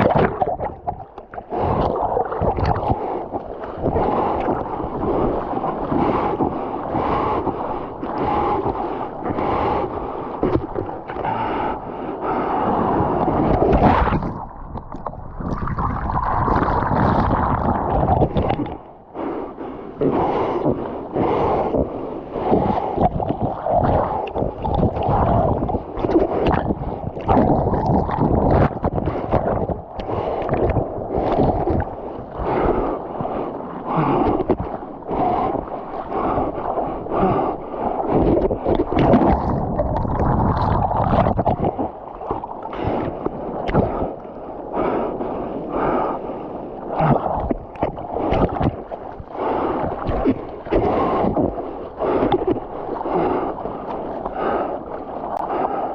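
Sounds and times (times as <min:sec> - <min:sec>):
sea water splashing: 0:00.0 - 0:55.9.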